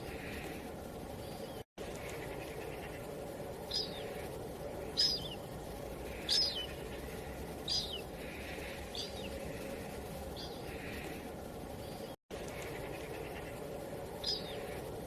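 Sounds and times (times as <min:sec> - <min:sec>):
steady background hiss: 0:00.0 - 0:15.0
small bird chirping: 0:01.2 - 0:14.9.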